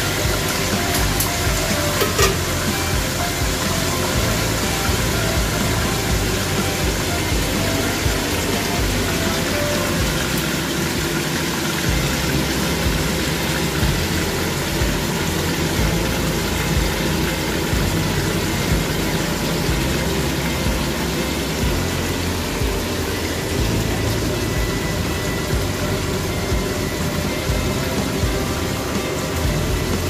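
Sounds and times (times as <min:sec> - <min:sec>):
fish sizzling in oil: 0:00.0 - 0:30.0.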